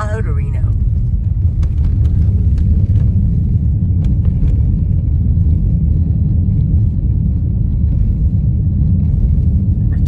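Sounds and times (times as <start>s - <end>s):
car road rumble: 0.0s - 10.0s.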